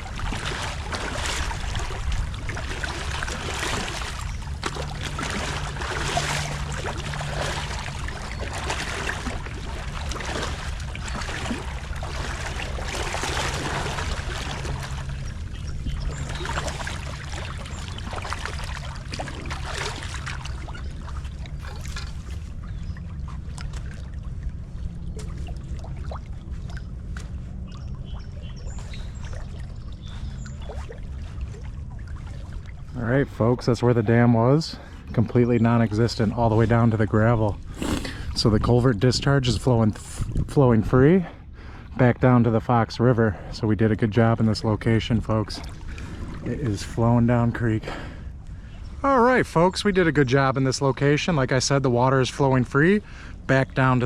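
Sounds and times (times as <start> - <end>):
creek water rushing and splashing: 0.0 - 39.0, 44.3 - 54.0.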